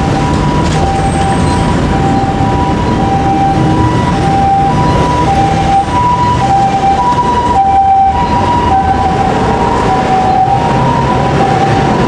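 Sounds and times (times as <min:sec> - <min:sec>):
street traffic: 0:00.0 - 0:12.0
two-tone ambulance siren: 0:00.0 - 0:12.0.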